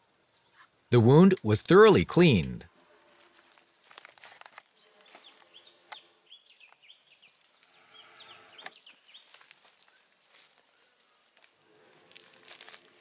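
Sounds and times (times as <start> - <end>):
insect drone: 0.0 - 0.9, 2.7 - 13.0.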